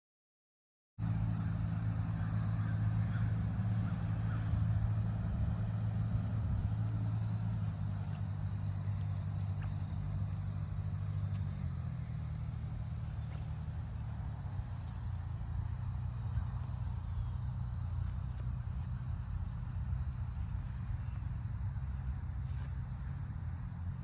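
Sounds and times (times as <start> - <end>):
engine idling hum: 1.0 - 24.0.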